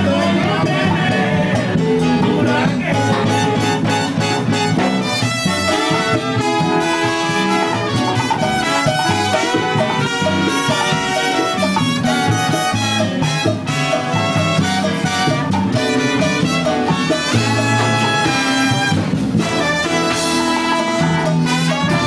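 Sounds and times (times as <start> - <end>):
brass section melody: 0.0 - 22.0
salsa band playing: 0.0 - 22.0.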